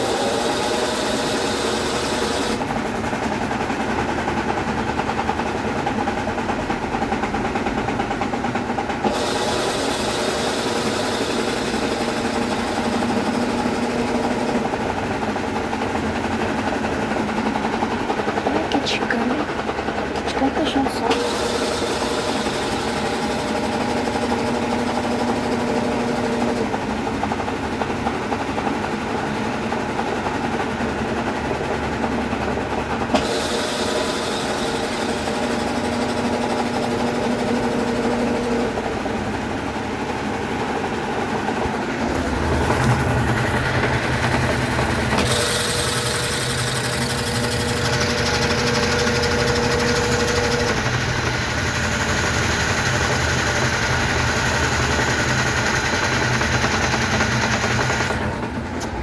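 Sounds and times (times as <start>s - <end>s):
washing machine motor humming: 0.0s - 59.0s.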